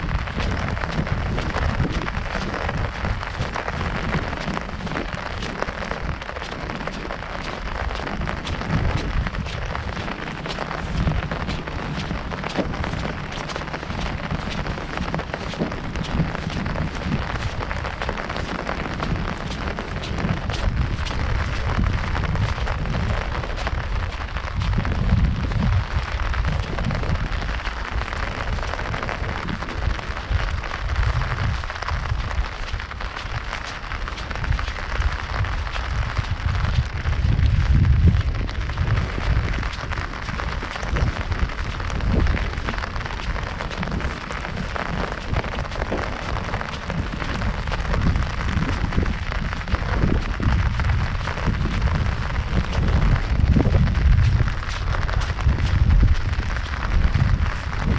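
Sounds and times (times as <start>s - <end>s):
heavy rain on umbrella: 0.0s - 57.9s
low rumble: 0.0s - 57.9s.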